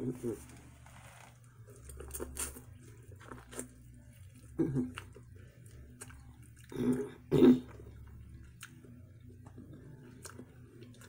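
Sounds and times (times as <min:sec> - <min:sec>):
person chewing corn: 0:01.2 - 0:11.0.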